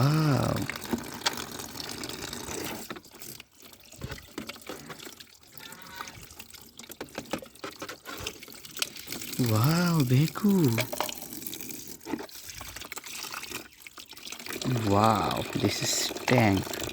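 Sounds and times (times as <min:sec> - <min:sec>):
water splashing over toys: 0:00.0 - 0:16.9.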